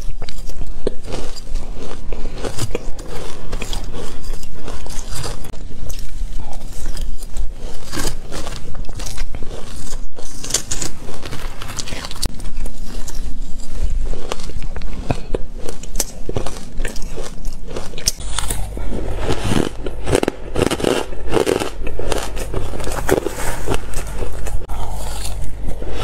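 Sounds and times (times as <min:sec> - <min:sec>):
crunching and chewing of shaved ice: 0:00.0 - 0:26.0.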